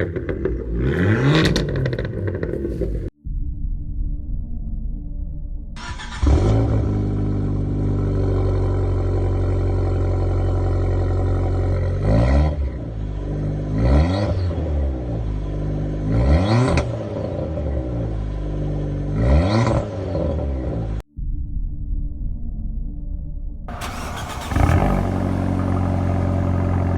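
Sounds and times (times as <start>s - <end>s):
car engine idling and revving: 0.0s - 3.2s, 5.8s - 21.0s, 23.7s - 26.9s.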